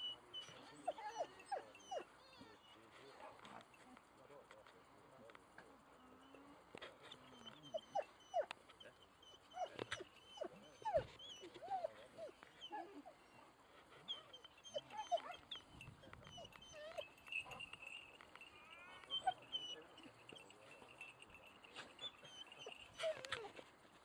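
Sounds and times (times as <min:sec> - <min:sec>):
dogs whining and yipping: 0:00.0 - 0:02.9, 0:07.2 - 0:23.7.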